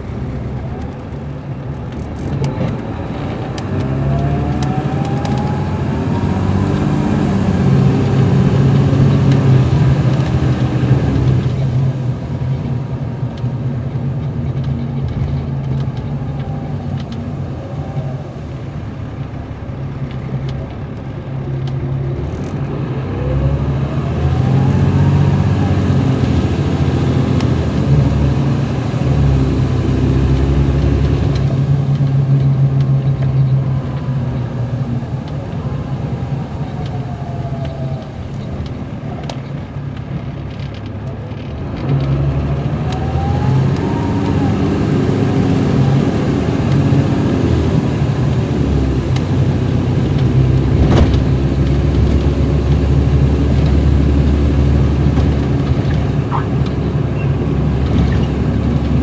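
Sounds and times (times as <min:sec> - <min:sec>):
bus diesel engine under load: 0:00.0 - 0:59.0
engine whine: 0:00.0 - 0:59.0.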